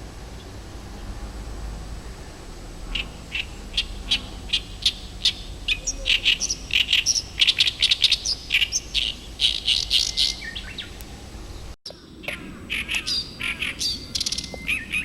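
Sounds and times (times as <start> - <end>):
reed warbler harsh chattering song: 0.0 - 15.0.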